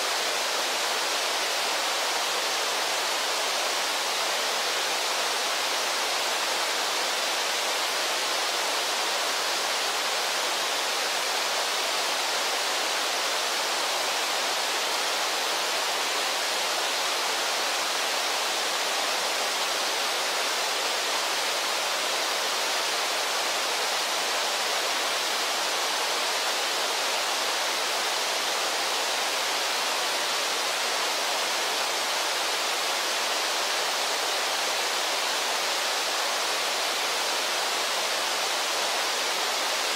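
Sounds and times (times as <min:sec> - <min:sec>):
waterfall and river rapids rushing: 0:00.0 - 0:39.9.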